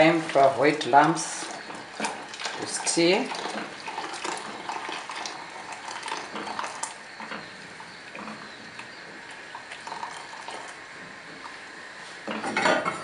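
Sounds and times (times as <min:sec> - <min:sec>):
hot water pouring into saucepan: 0:00.0 - 0:11.7.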